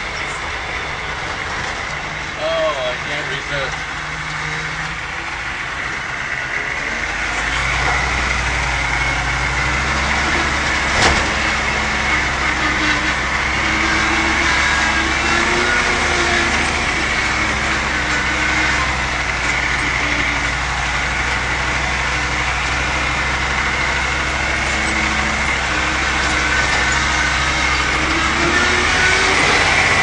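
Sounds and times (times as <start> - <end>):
engine running inside cab: 0.0 - 30.0.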